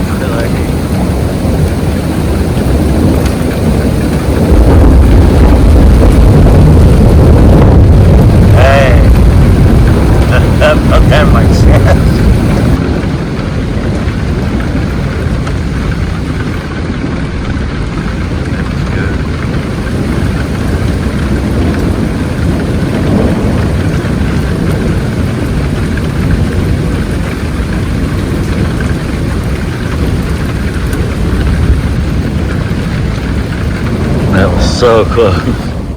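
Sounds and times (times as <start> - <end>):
steady rain: 0.0 - 35.9
thunder rumbling: 0.0 - 35.9.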